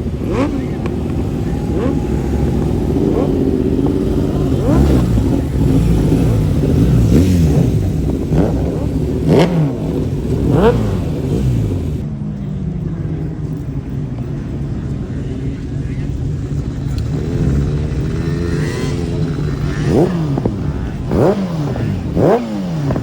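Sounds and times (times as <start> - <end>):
engines revving hard: 0.0 - 12.0, 16.6 - 23.0
low engine rumble: 0.0 - 23.0.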